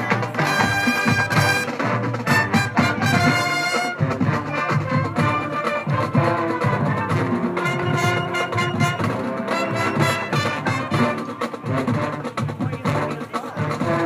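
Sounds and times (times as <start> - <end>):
brass holding sustained notes: 0.0 - 14.0
marching percussion: 0.0 - 14.0.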